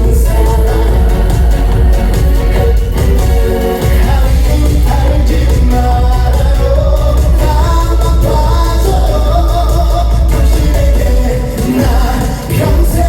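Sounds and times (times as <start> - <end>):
heavy steady bass: 0.0 - 13.0
man singing over backing track: 0.0 - 13.0.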